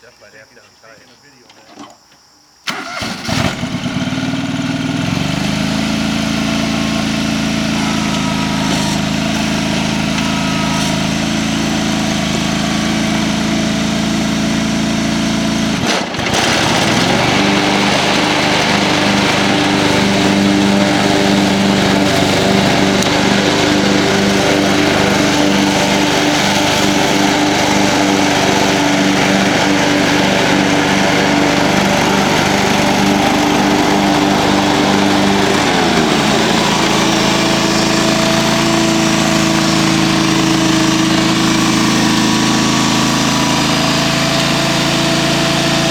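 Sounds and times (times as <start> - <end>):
lawn tractor engine idling: 2.7 - 45.9.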